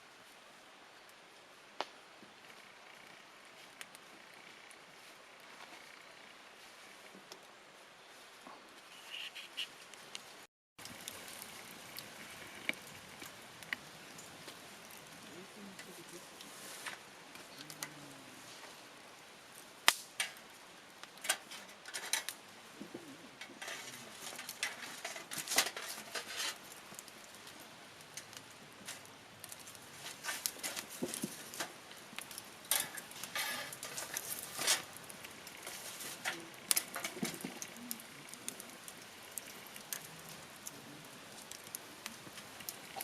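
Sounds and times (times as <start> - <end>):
faint hiss: 0.0 - 43.0
campfire crackling and popping: 1.0 - 7.8, 8.7 - 43.0.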